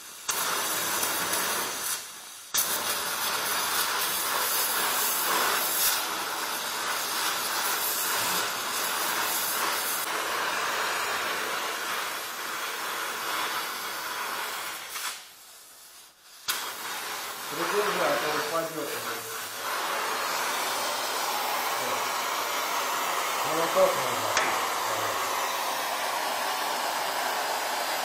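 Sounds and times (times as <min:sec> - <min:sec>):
welding torch flame hissing: 0:00.0 - 0:28.0.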